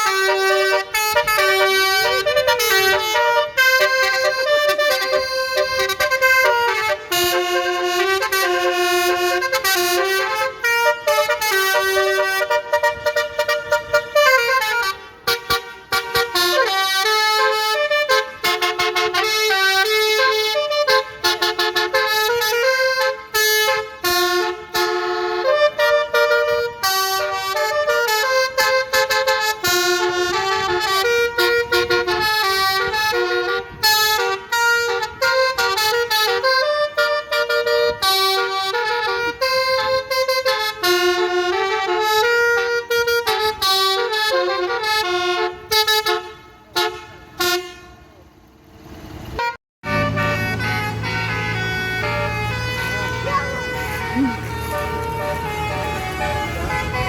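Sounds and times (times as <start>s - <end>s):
musical air horn tune: 0.0s - 48.0s, 49.3s - 57.0s.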